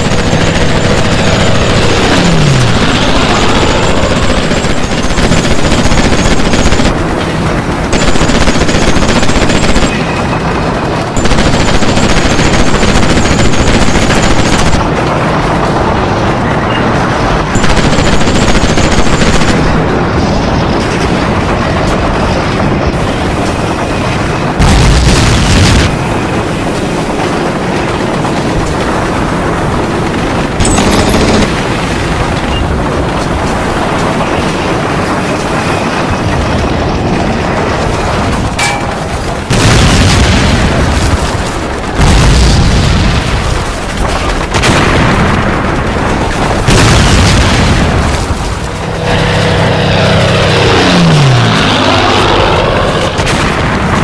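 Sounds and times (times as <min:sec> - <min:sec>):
explosions: 0:00.0 - 0:54.0
machine-gun fire: 0:00.0 - 0:54.0.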